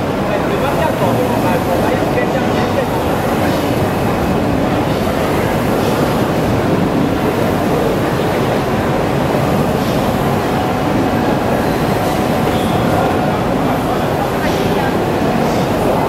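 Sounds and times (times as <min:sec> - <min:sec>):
crowd noise: 0:00.0 - 0:16.0
inkjet printer running: 0:00.0 - 0:16.0.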